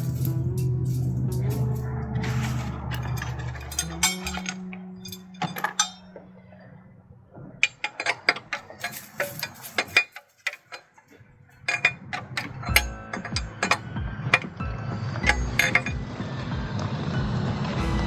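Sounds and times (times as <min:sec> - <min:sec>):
metal tools clinking: 0:00.0 - 0:06.8, 0:07.6 - 0:14.6, 0:15.2 - 0:16.0.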